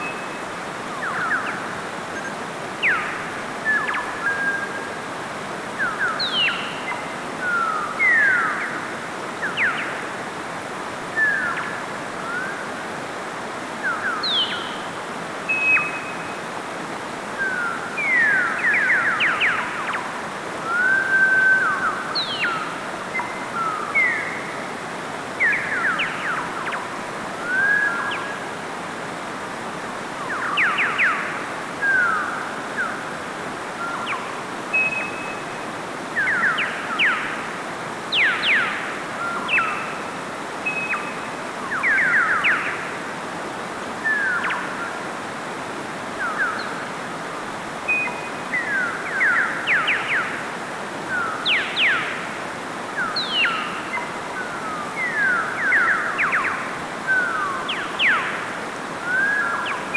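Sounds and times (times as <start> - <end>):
mountain stream rushing over rocks: 0.0 - 59.9.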